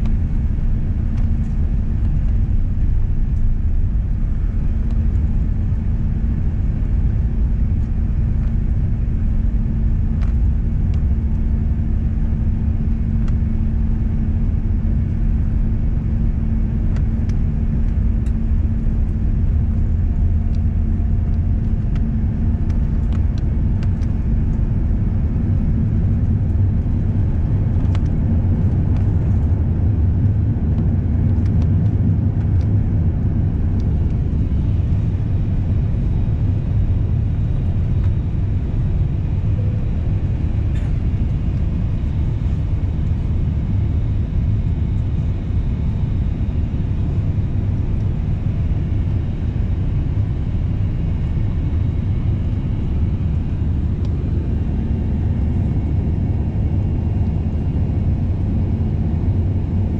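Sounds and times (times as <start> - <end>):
jet engine cabin rumble: 0.0 - 59.9
steady hum: 0.0 - 59.9.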